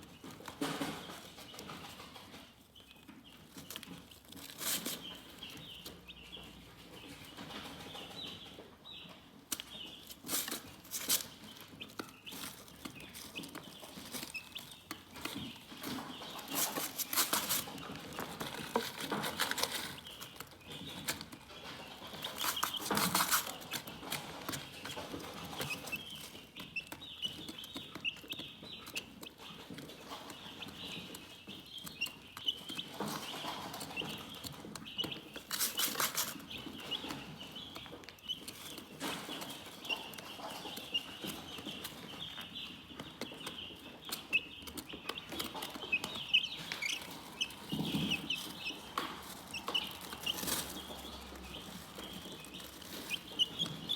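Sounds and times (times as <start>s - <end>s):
chickens clucking and chirping: 0.0s - 53.9s
rustling: 3.4s - 5.9s, 9.5s - 27.7s, 28.9s - 42.7s, 43.4s - 53.9s.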